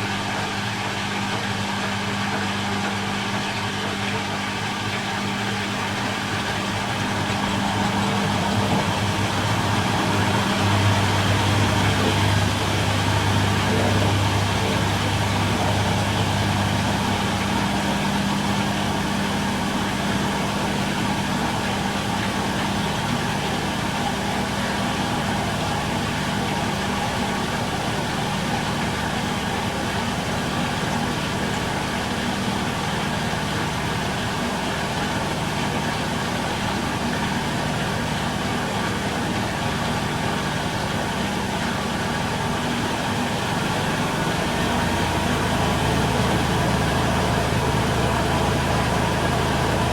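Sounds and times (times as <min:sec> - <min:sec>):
washing machine spinning: 0:00.0 - 0:49.9.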